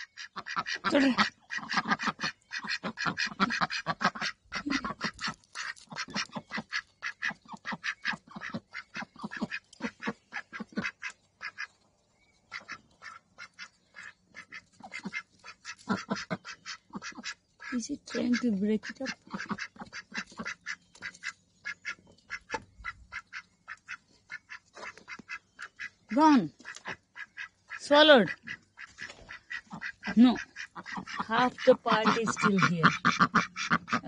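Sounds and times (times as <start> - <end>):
ducks quacking: 0.0 - 11.8, 12.5 - 34.0.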